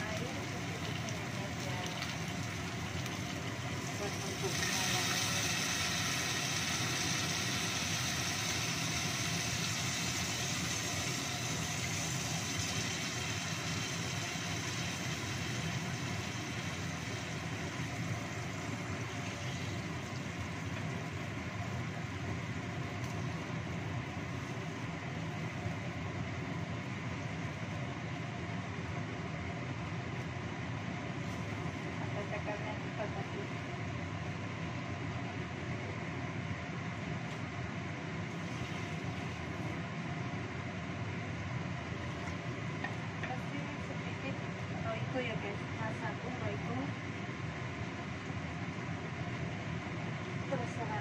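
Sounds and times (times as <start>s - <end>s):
exhaust fan drone: 0.0s - 51.0s.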